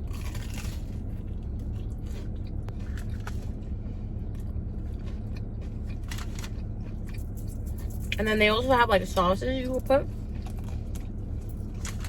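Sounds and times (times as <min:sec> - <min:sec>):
crunchy food being chewed: 0:00.0 - 0:08.3, 0:10.2 - 0:12.0
steady low hum: 0:00.0 - 0:12.0.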